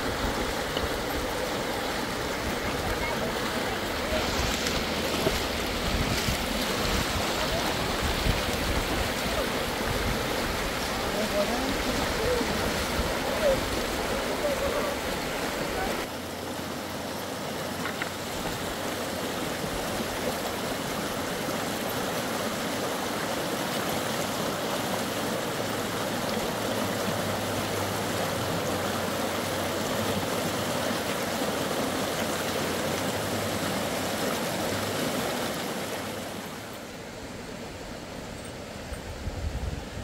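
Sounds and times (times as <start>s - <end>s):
river rushing over stones: 0.0s - 40.0s.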